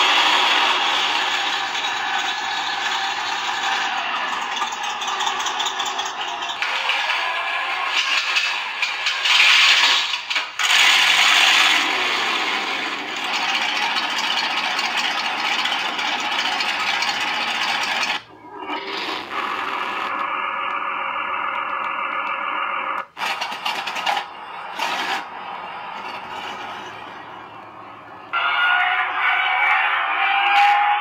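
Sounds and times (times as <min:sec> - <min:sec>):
recorded tank engine sounds: 0:00.0 - 0:31.0.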